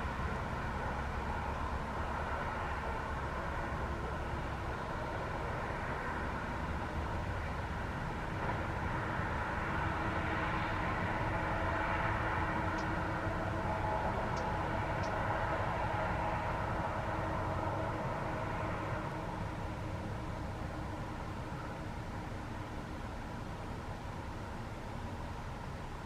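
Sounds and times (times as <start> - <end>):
jet engines rumbling and whining: 0.0 - 23.9.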